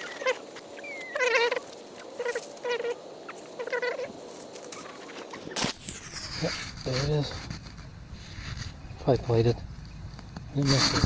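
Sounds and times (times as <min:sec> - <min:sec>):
bird calling: 0:00.0 - 0:10.7.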